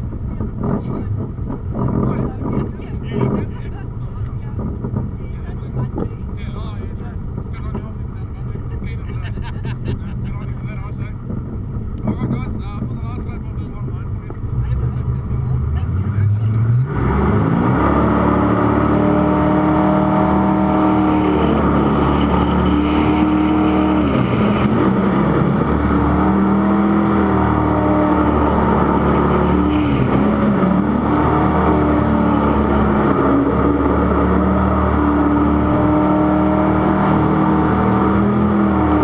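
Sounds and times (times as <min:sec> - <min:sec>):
boat engine revving: 0:00.0 - 0:39.0.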